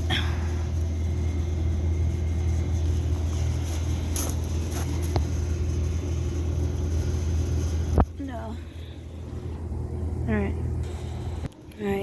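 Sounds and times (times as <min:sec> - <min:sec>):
air-conditioning unit humming: 0:00.0 - 0:12.0.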